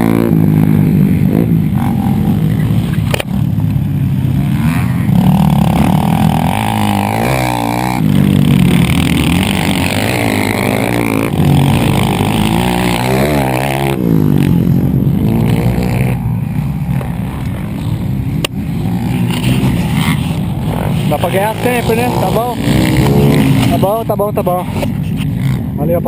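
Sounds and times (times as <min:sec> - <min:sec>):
two-stroke motorcycle engines revving: 0:00.0 - 0:26.0.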